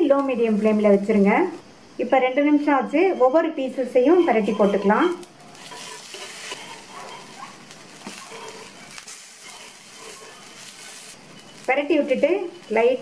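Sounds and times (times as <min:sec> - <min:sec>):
vegetables sizzling in hot oil: 0:00.0 - 0:01.7, 0:04.0 - 0:13.0.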